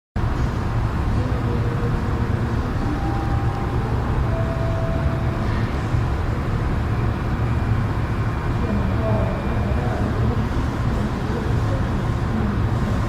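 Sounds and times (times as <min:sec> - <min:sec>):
low rumble and hum: 0:00.2 - 0:13.0.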